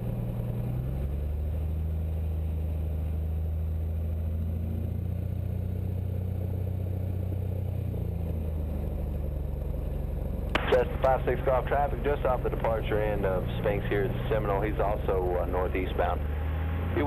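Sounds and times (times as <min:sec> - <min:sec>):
propeller plane engine: 0:00.0 - 0:17.0.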